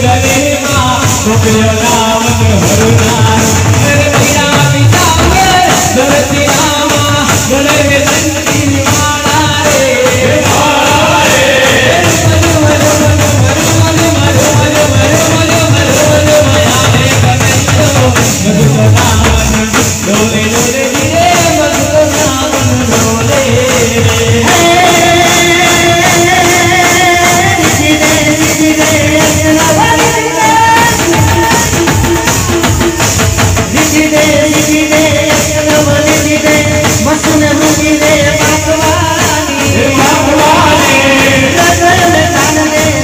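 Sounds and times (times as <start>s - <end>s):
drums: 0.0s - 43.0s
voices singing: 0.0s - 43.0s.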